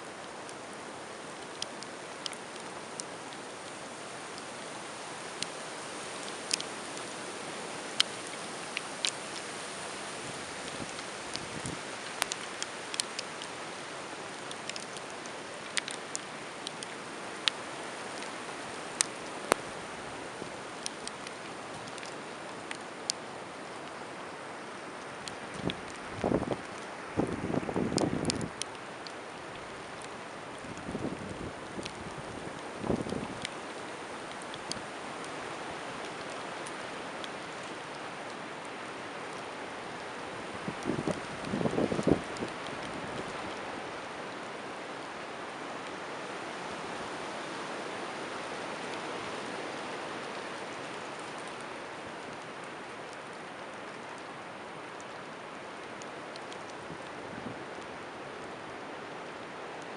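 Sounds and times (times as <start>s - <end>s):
wind and blowing snow: 0.0s - 59.9s
faint ticks: 0.2s - 19.8s, 20.4s - 47.8s, 48.4s - 59.9s.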